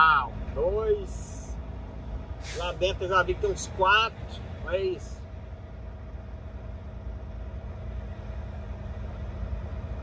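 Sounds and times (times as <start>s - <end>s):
truck engine drone in cab: 0.0s - 10.0s.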